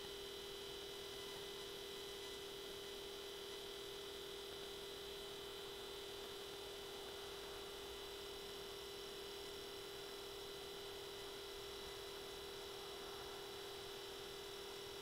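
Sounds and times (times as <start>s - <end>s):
low electronic hum with whine: 0.0s - 15.0s.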